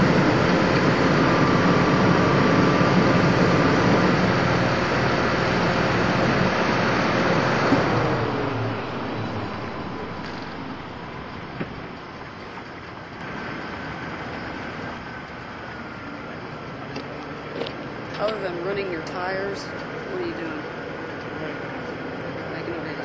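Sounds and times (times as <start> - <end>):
vehicle engine: 0.0 - 23.0
vehicle rumble: 0.0 - 23.0.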